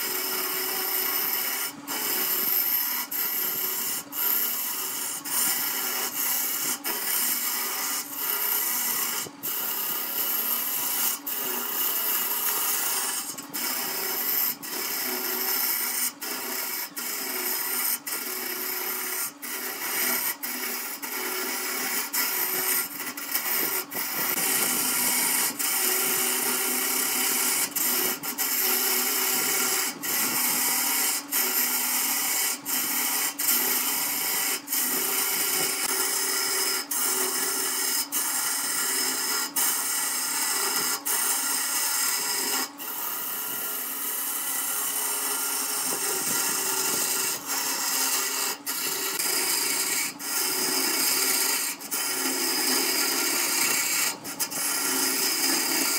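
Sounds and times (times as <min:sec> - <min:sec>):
lathe motor hum: 0:00.0 - 0:55.9
turning tool cutting wood: 0:00.0 - 0:55.9.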